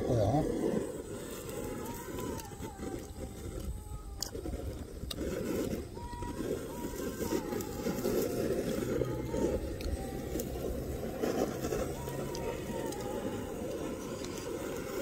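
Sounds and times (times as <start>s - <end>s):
butane torch flame rushing: 0.0s - 15.0s.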